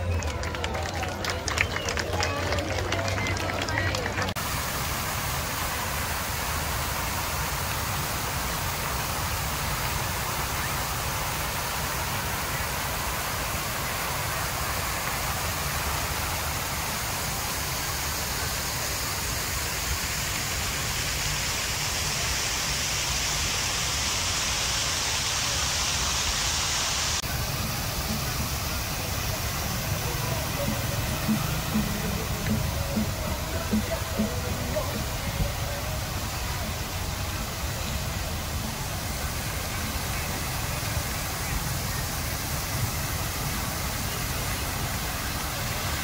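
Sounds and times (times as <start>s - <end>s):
fountain water splashing: 0.0s - 46.0s
hissing water spray: 3.9s - 46.0s.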